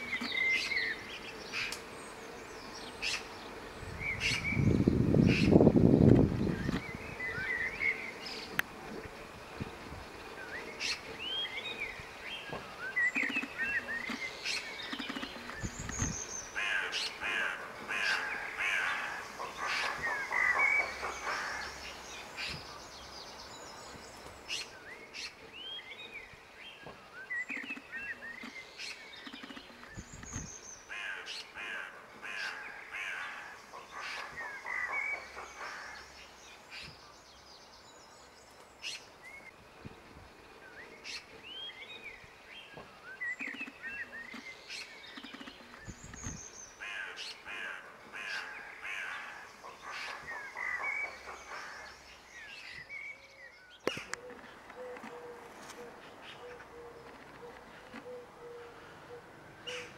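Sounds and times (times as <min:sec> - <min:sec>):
wild birds singing and calling: 0:00.0 - 0:59.9.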